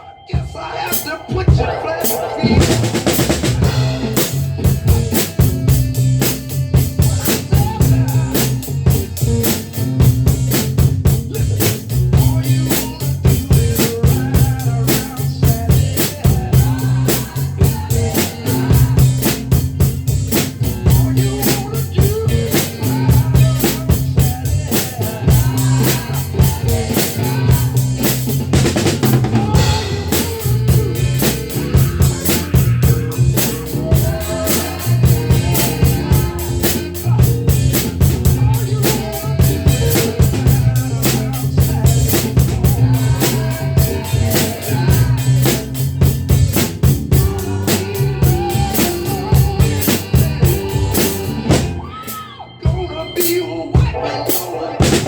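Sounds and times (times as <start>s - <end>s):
drum kit groove: 0.3s - 55.0s
recorded music with bass line: 0.3s - 55.0s.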